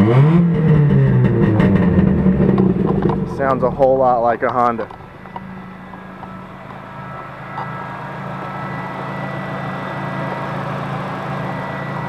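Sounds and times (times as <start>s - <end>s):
engine running with steady hum: 0.0s - 12.0s.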